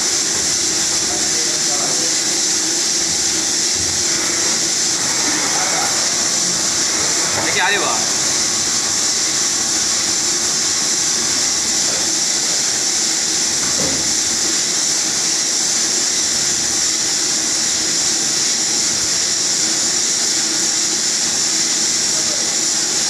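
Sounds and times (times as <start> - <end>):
machine high hiss: 0.0 - 23.0.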